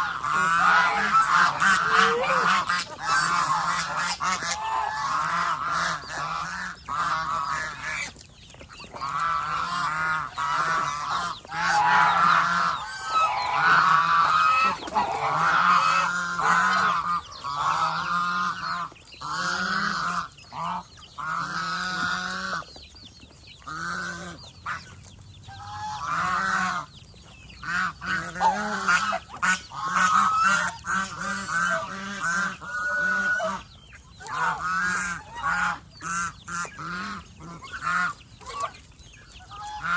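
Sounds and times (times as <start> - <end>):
geese honking: 0.0 - 8.2, 8.8 - 22.7, 23.6 - 39.9.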